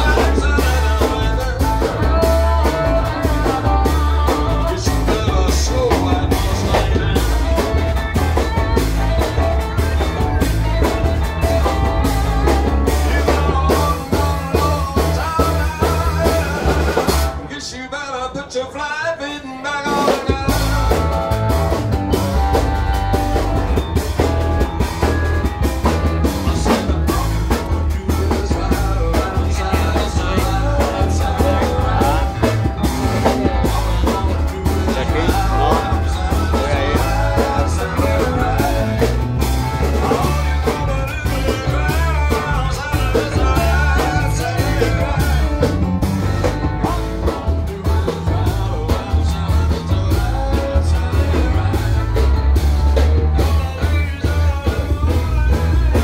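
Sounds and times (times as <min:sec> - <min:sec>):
steady drum beat: 0:00.0 - 0:17.5, 0:19.9 - 0:56.0
electric bass guitar: 0:00.0 - 0:18.8, 0:19.6 - 0:56.0
keyboard: 0:00.0 - 0:56.0
person singing: 0:00.0 - 0:56.0.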